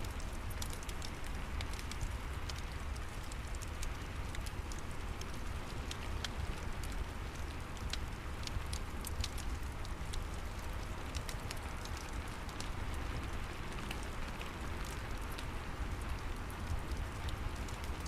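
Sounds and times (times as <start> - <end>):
steady rain hiss: 0.0 - 18.0
wood fire crackling: 0.0 - 18.0.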